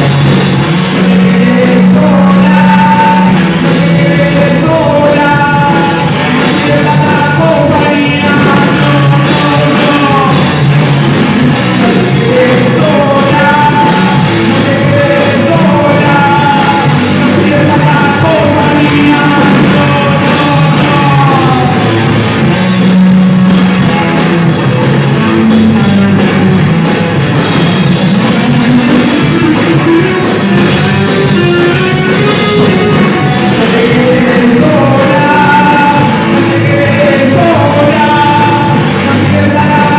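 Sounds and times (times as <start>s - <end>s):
person singing: 0.0s - 24.3s, 28.0s - 39.9s
rock band playing: 0.0s - 39.9s.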